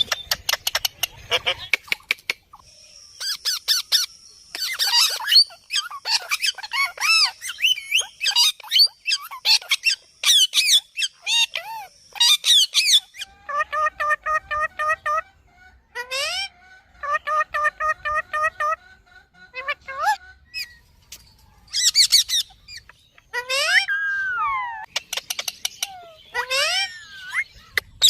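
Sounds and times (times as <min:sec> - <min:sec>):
parakeet squawking and chattering: 0:00.0 - 0:20.8, 0:21.7 - 0:28.0.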